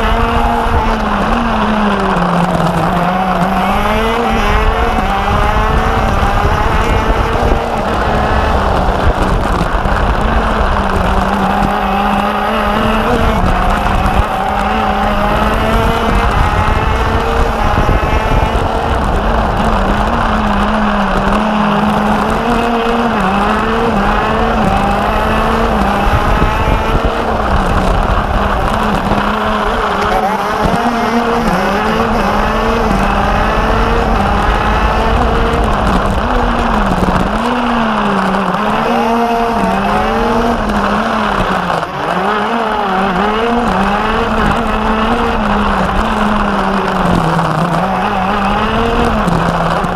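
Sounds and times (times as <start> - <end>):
kart engine at high revs: 0.0 - 49.9
second kart engine ahead: 0.0 - 49.9.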